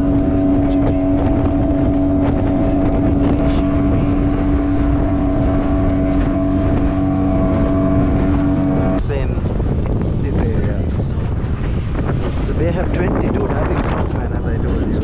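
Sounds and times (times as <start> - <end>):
motorboat engine droning: 0.0 - 15.0
wind and water rushing: 0.0 - 15.0.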